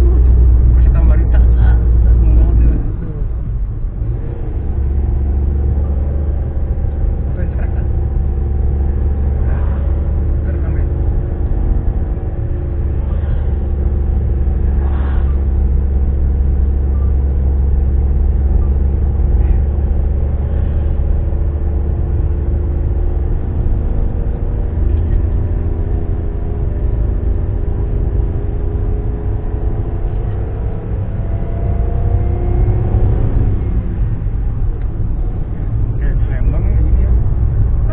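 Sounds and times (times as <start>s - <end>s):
car engine drone inside cabin: 0.0s - 37.9s.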